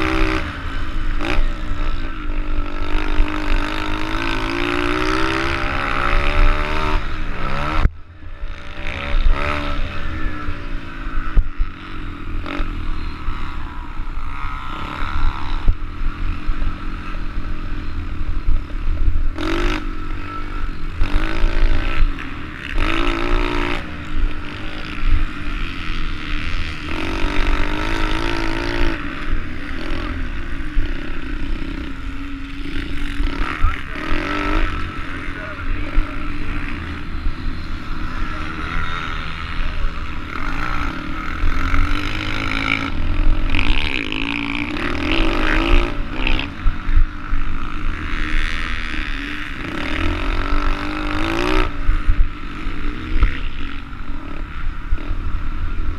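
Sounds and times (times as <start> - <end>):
small motorbike engine revving: 0.0 - 55.9.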